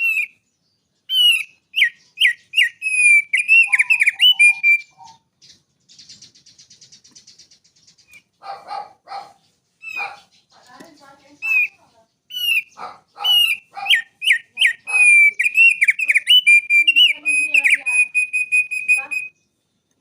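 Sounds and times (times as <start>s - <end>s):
rapid buzzy bird trill: 0.0s - 0.5s, 1.1s - 19.4s
songbird whistling song: 0.0s - 20.0s.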